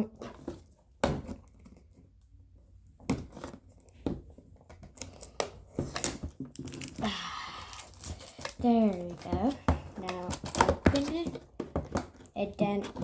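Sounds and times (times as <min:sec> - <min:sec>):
plastic and cardboard crinkling: 0:00.0 - 0:13.0.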